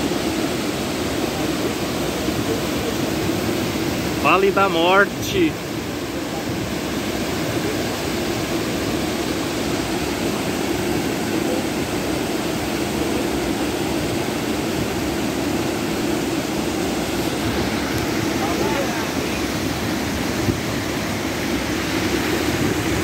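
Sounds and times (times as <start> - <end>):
stream and waterfall rushing: 0.0 - 23.0.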